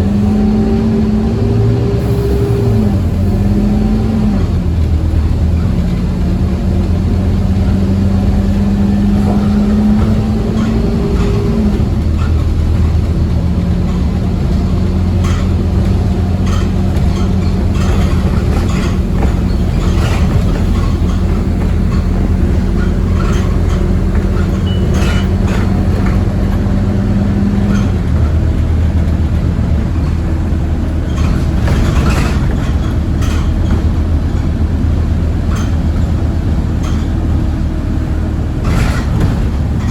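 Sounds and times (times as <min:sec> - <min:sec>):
bus engine running: 0:00.0 - 0:39.9
road rumble: 0:00.0 - 0:39.9
bodywork rattling and knocking: 0:04.8 - 0:39.9.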